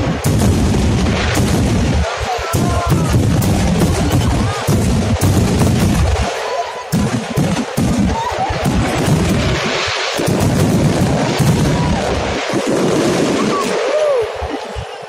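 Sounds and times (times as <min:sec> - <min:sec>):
fireworks bangs and booms: 0:00.0 - 0:15.0
low rumble: 0:00.0 - 0:15.0.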